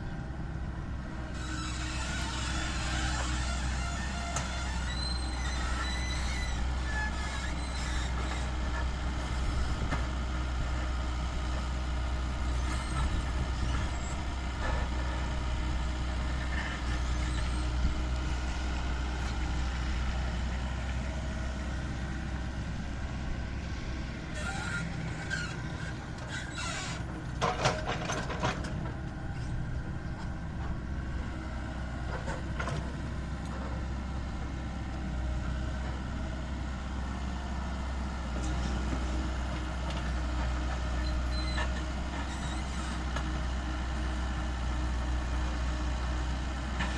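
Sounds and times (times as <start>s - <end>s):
diesel machinery engine rumble: 0.0s - 46.9s.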